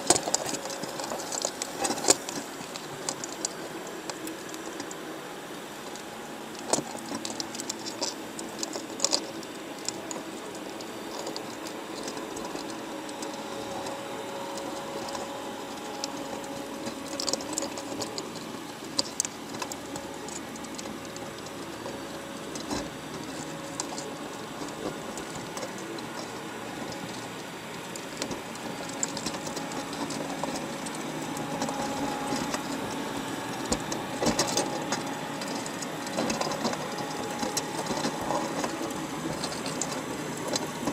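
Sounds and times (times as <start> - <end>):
low underwater hum: 0.0 - 40.9
sharp clicks and crackles: 0.0 - 40.9.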